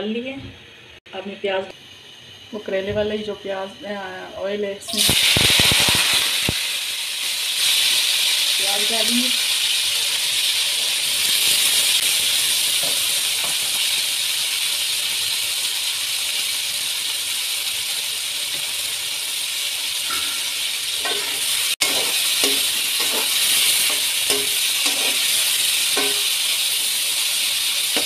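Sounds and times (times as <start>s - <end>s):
onions sizzling in hot oil: 4.9s - 28.0s.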